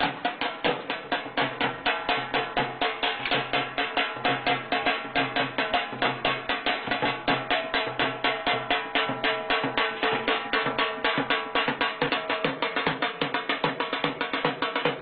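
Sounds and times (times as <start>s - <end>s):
music with fast drum beat: 0.0s - 15.0s.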